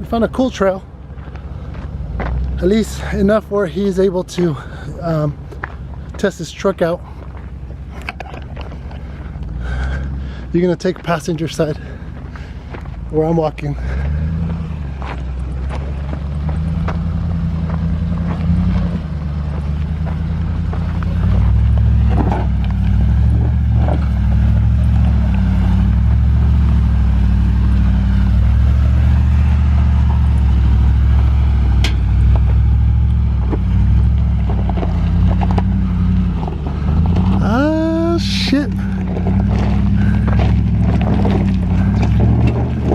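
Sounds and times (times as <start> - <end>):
truck engine low hum: 0.0 - 42.9.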